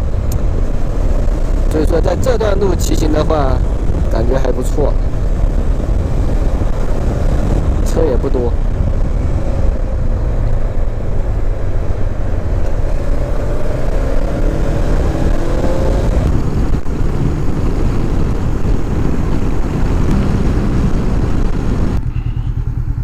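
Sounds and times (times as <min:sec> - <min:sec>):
motorcycle engine cruising: 0:00.0 - 0:23.0
wind rushing over microphone: 0:00.0 - 0:23.0.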